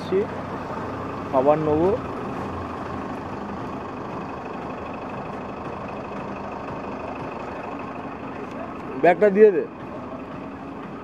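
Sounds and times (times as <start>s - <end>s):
street traffic noise: 0.0s - 11.0s
vehicle engine humming nearby: 0.0s - 11.0s.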